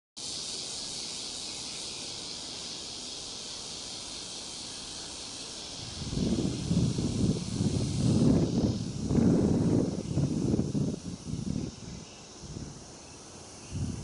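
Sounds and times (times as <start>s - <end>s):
high-pitched hiss: 0.2s - 14.0s.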